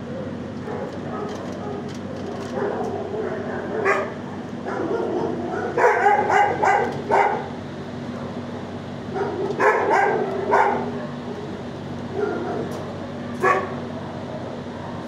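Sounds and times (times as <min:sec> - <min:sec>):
dogs barking: 0:00.0 - 0:15.0
steady low hum: 0:00.0 - 0:15.0.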